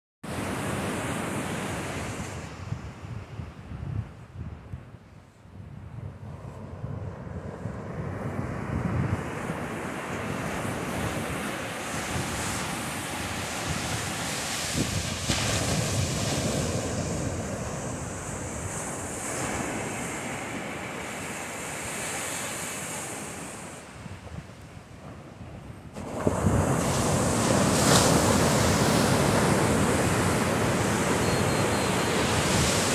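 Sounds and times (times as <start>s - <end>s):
ocean surf breaking on beach: 0.3s - 3.8s, 6.3s - 32.9s
wind rumbling on microphone: 1.8s - 32.9s.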